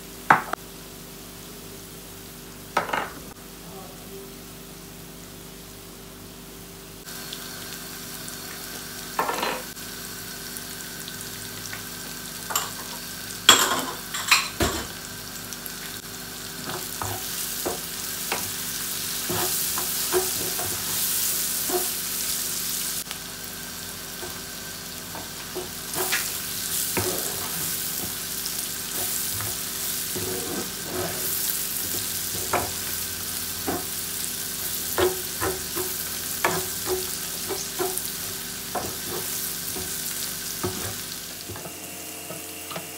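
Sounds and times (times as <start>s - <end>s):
food sizzling in hot oil: 4.8s - 42.9s.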